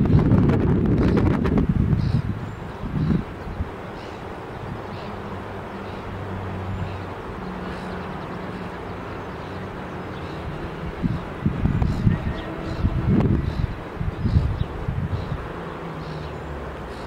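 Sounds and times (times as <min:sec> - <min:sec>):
faint outdoor background noise: 0:00.0 - 0:17.0
vehicle engine hum: 0:00.0 - 0:17.0.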